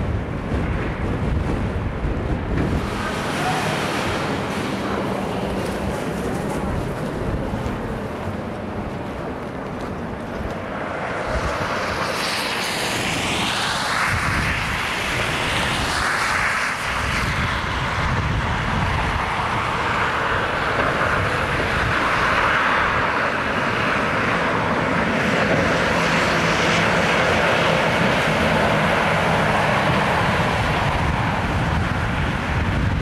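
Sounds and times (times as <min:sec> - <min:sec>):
low engine hum: 0:00.0 - 0:33.0
vehicles passing: 0:00.0 - 0:33.0.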